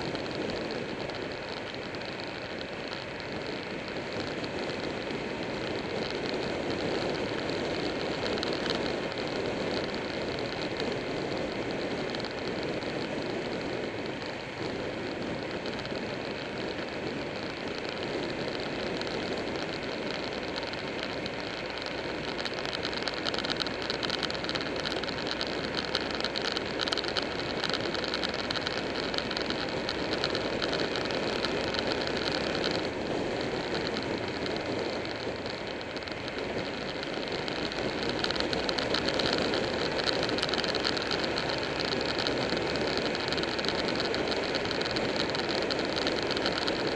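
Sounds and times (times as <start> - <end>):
motorcycle engine running: 0.0 - 46.9
wind rush over microphone: 0.0 - 46.9.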